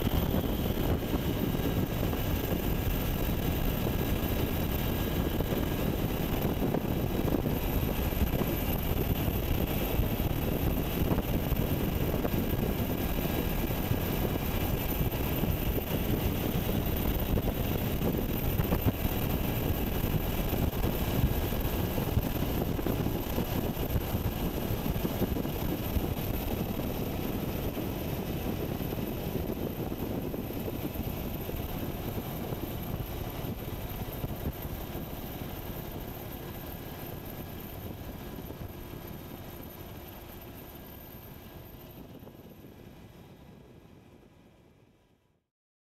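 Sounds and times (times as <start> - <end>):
helicopter engine and rotor noise: 0.0 - 45.0.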